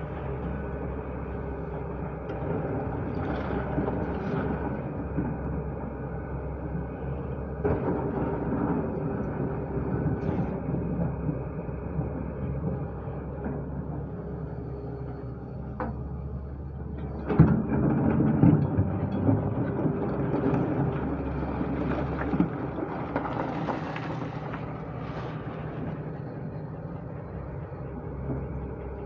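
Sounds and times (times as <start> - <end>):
digger diesel engine under load: 0.0 - 29.0.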